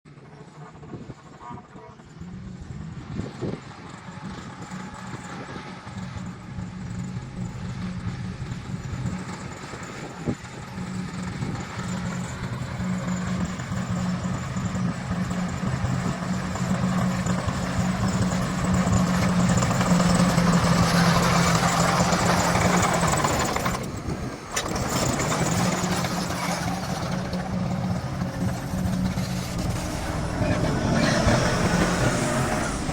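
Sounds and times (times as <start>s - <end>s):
bulldozer diesel engine: 0.1s - 32.9s.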